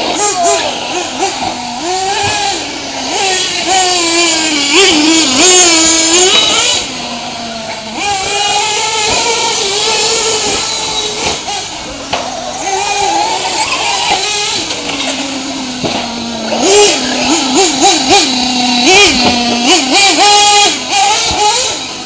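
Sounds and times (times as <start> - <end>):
rc nitro engine whining: 0.0 - 22.0.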